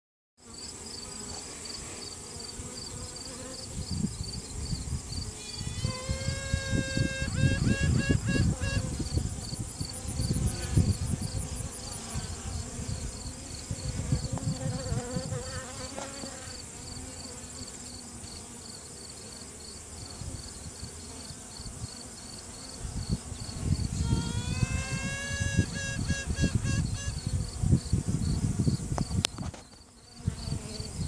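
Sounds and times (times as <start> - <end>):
bees buzzing: 0.4 - 28.6
queen bee piping: 0.4 - 31.0.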